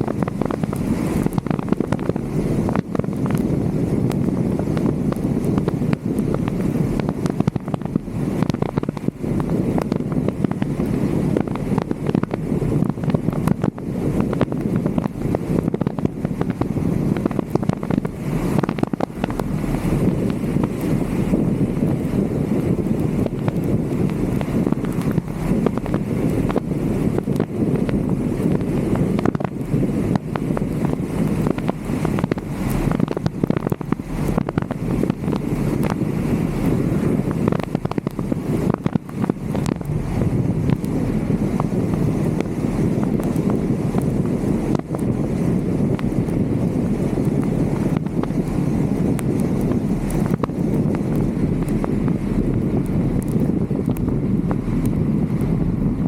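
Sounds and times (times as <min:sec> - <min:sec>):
raindrops tapping on camera: 0:00.0 - 0:56.0
wind buffeting microphone: 0:00.0 - 0:56.0.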